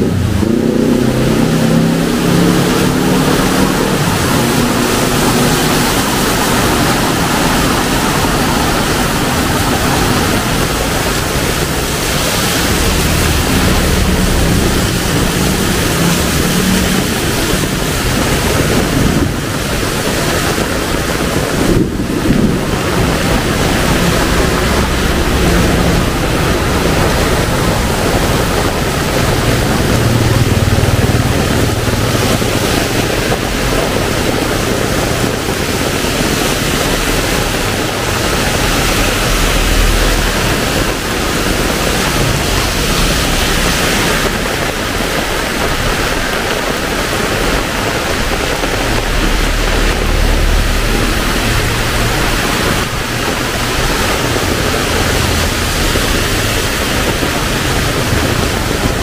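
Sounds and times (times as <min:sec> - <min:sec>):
heavy rain pouring: 0:00.0 - 0:59.0
low rumble: 0:00.0 - 0:59.0.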